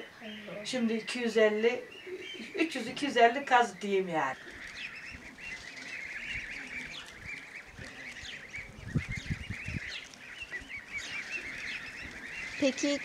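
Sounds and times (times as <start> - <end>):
goslings peeping: 0.0 - 13.0.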